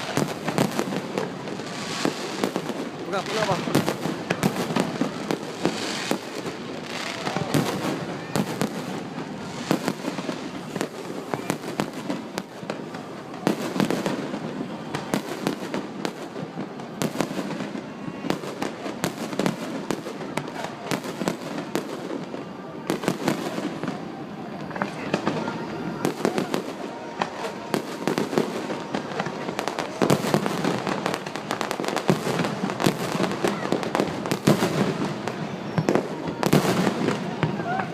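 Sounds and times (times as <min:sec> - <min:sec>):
fireworks bangs and crackle: 0:00.0 - 0:37.9.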